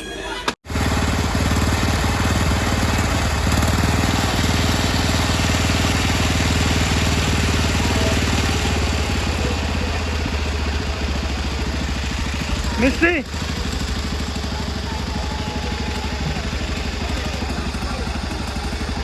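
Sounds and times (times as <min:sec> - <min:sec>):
small engine droning: 0:00.6 - 0:19.0.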